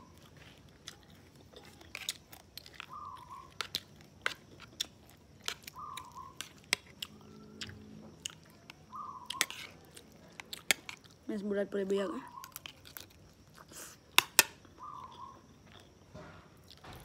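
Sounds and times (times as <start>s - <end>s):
wet chewing and mouth smacks: 0.0s - 11.2s, 12.3s - 16.0s.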